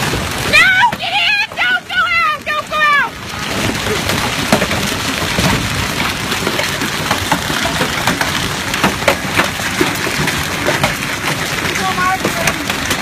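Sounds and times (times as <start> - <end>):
hailstones striking: 0.0 - 13.0
heavy rain falling: 0.0 - 13.0.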